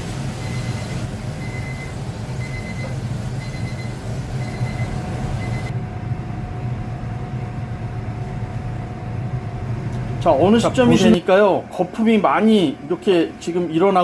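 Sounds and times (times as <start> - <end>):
pot boiling: 0.0 - 11.6.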